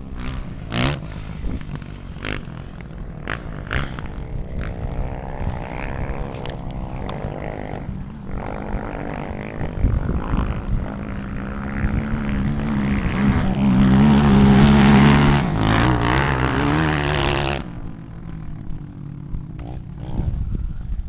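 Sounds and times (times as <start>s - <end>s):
off-road engines revving hard: 0.0s - 18.0s.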